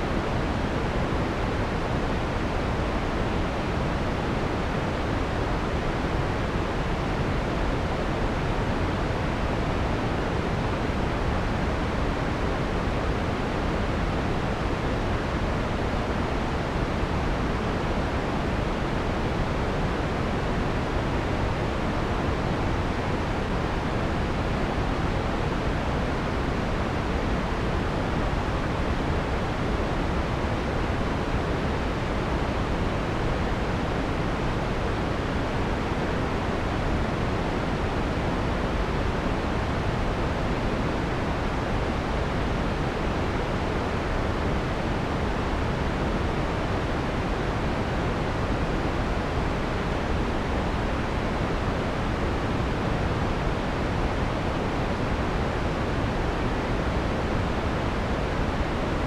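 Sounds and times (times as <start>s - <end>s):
soft filtered white noise: 0.0s - 59.0s.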